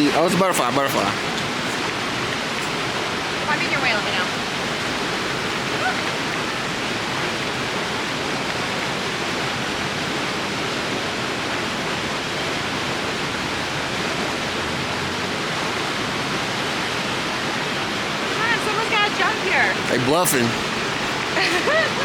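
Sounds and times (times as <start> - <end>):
whitewater rushing down river: 0.0 - 22.0.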